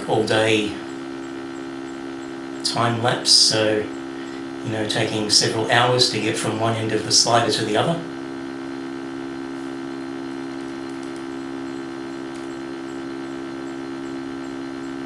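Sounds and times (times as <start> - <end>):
stepper motor humming: 0.0 - 15.0.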